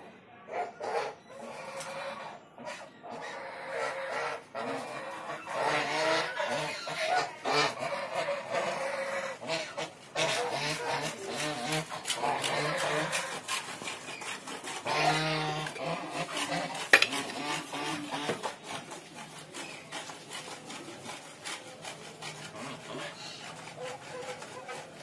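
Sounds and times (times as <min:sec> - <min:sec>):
geese clattering on pavement: 0:03.9 - 0:25.0.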